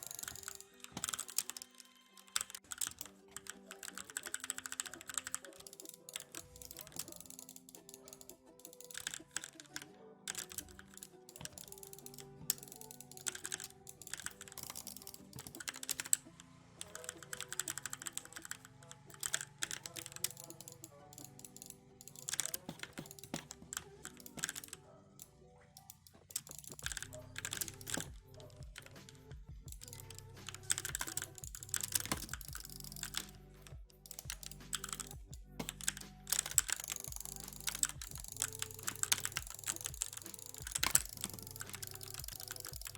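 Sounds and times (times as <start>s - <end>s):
mechanical keyboard key clacks: 0.0s - 16.2s, 16.8s - 24.8s, 25.8s - 42.9s
quiet background music: 0.0s - 42.9s.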